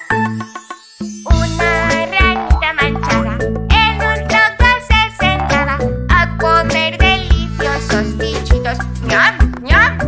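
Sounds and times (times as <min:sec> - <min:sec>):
upbeat instrumental children's music: 0:00.0 - 0:10.0.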